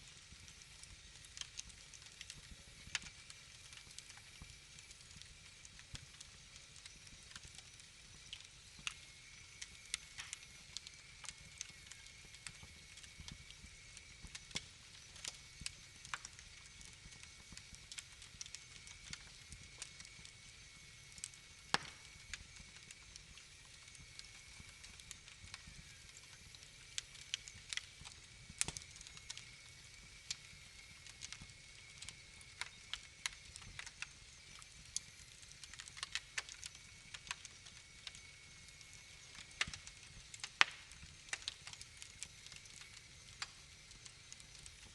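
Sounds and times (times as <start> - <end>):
fire pops and snaps: 0.0 - 44.9
wood fire crackling: 0.0 - 44.9.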